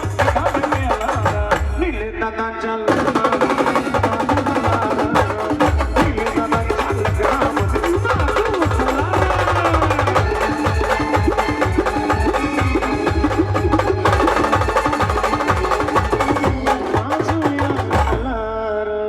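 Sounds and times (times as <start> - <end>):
fast dense drumming: 0.0 - 2.2, 2.9 - 18.6.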